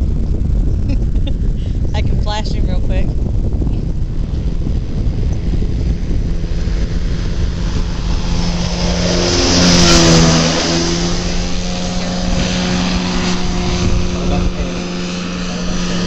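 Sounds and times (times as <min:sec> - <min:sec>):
ultralight aircraft engine droning: 0:00.0 - 0:16.0.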